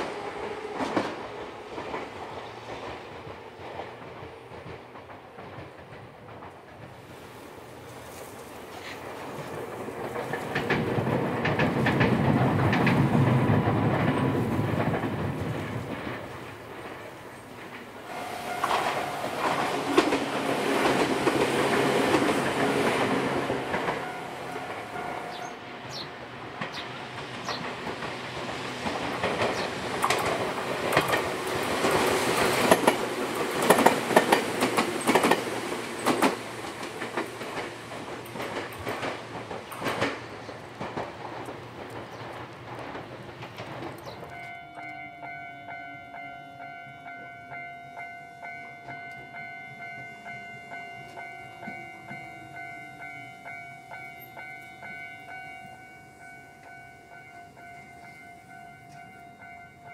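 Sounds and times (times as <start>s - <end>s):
train rumbling over bridge: 0.0s - 59.9s
wheels clicking over rail joints: 0.2s - 59.9s.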